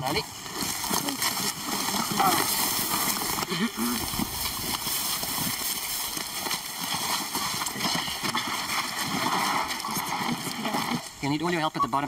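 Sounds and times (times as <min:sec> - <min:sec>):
footsteps crunching through dry grass: 0:00.0 - 0:10.4.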